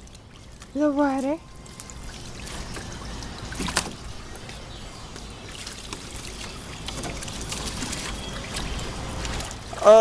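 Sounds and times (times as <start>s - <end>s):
garden hose water running: 0.0s - 10.0s.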